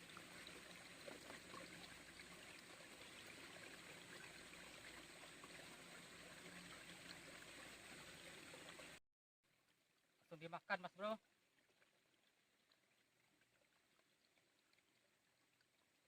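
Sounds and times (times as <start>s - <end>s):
faint babbling river water: 0.0s - 16.0s.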